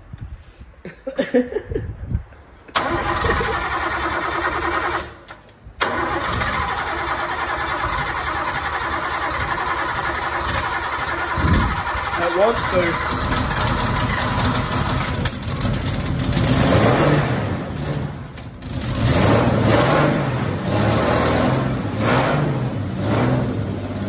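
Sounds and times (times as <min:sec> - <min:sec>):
car engine cranking and running: 0:02.7 - 0:24.0.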